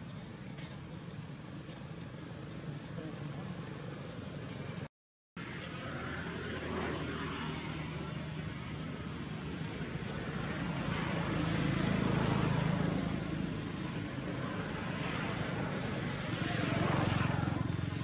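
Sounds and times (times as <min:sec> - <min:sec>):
distant engine droning: 0:00.0 - 0:18.0.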